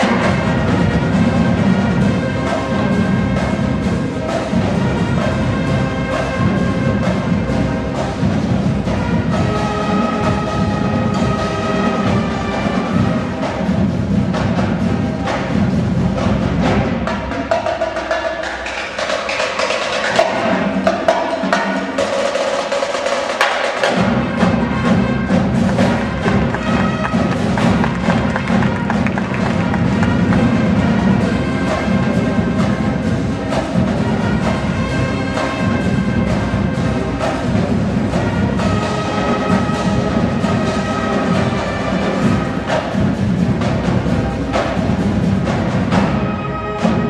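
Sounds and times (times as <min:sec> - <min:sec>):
drum-line percussion: 0:00.0 - 0:47.0
marching band brass: 0:00.0 - 0:47.0.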